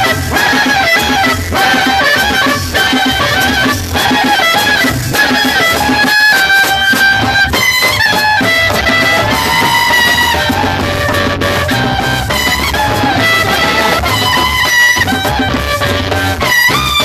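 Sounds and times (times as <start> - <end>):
cane clarinet playing high melody: 0.0 - 17.0
hand-played skin drum: 0.0 - 17.0.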